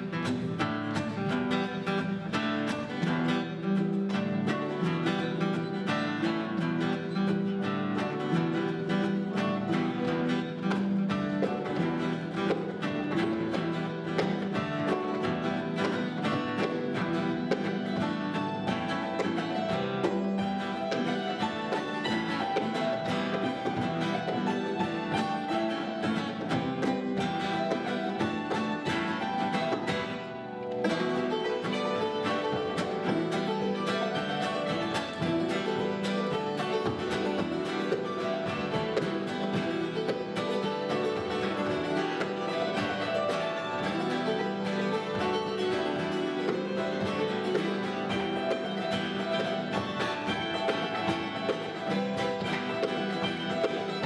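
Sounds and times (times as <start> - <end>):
fiddle: 0.0 - 54.0
hammered dulcimer: 0.0 - 54.0
harp: 0.0 - 54.0
strummed acoustic guitar: 0.0 - 54.0.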